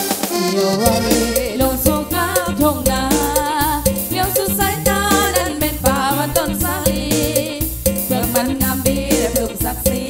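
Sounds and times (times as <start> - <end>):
band with bass: 0.0 - 10.0
percussion beat: 0.0 - 10.0
person singing with vibrato: 0.2 - 10.0.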